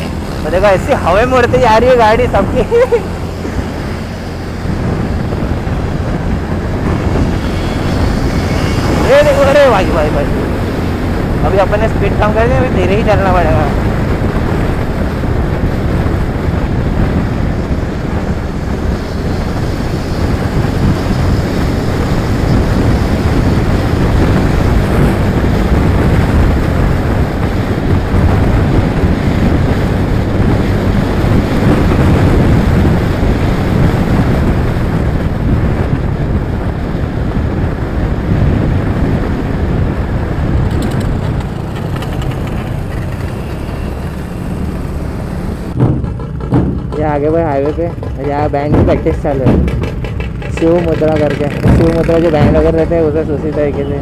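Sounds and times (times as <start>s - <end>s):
road noise: 0.0s - 54.0s
wind rushing over microphone: 0.0s - 54.0s.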